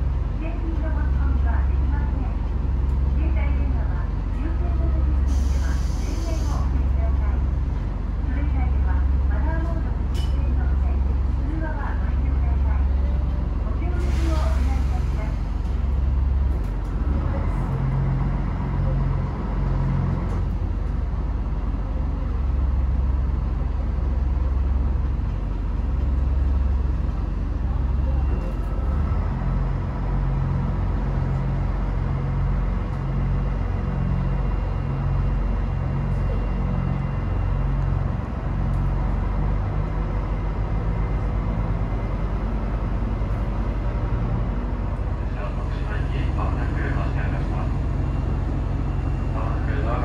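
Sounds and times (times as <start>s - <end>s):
train engine low rumble: 0.0s - 50.0s.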